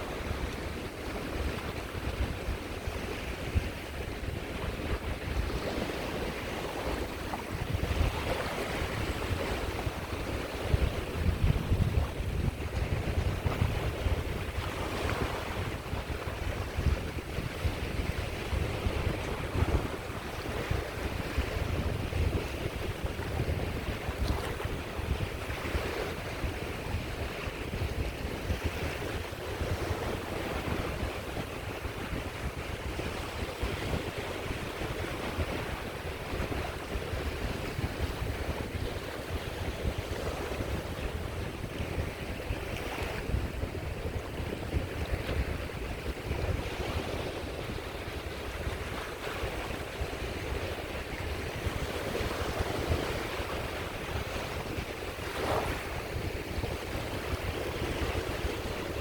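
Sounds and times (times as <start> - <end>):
sea waves washing on shore: 0.0 - 59.0
wind buffeting microphone: 0.0 - 59.0.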